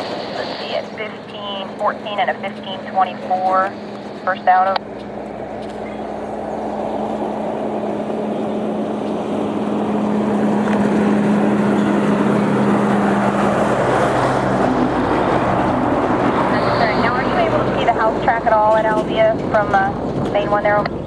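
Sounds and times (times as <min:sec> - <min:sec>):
diesel locomotive engines humming: 0:00.0 - 0:21.0.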